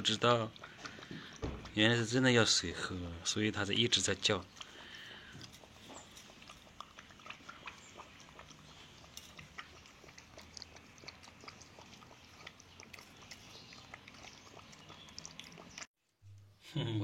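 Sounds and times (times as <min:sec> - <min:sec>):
pet lapping water: 0:00.0 - 0:15.9.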